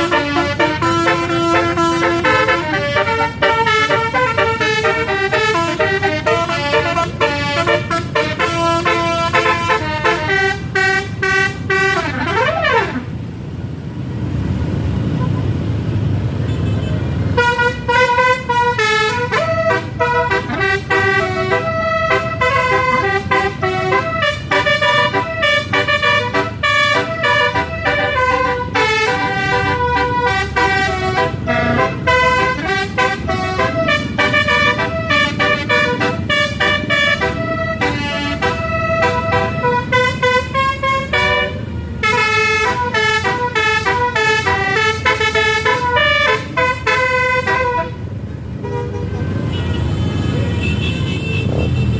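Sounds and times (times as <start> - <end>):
bus horns playing fast melody: 0.0 - 13.3, 16.6 - 51.9
low rumble of bus engines: 0.0 - 51.9.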